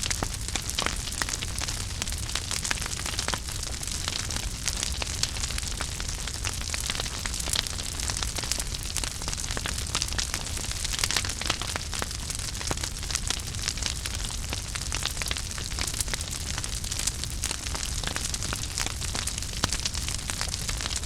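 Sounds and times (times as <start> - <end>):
burning wood crackling and popping: 0.0 - 21.0
fire rumble and hiss: 0.0 - 21.0.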